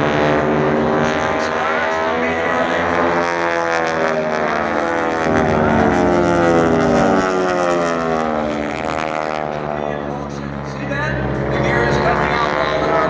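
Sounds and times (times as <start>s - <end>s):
propeller planes passing: 0.0s - 13.0s.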